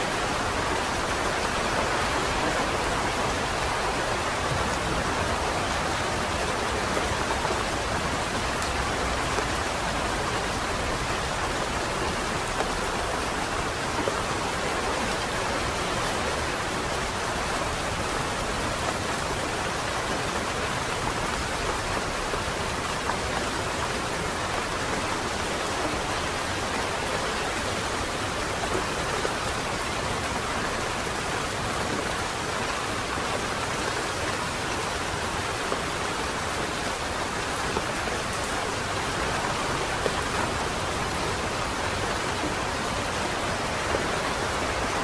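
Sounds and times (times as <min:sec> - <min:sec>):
rain on wet pavement: 0:00.0 - 0:45.0.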